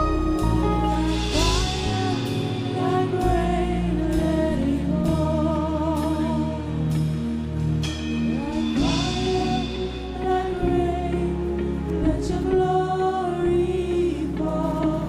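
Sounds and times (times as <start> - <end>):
gospel backing chords: 0.0 - 15.0.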